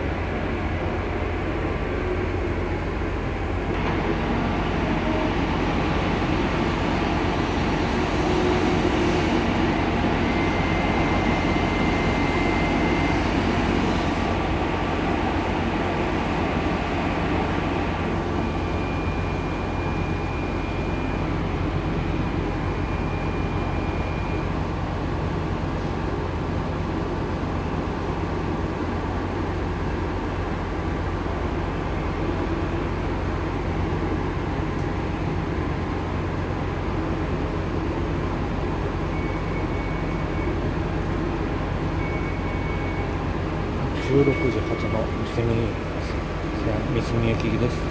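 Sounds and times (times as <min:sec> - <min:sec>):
diesel train engine idling: 0:00.0 - 0:47.9.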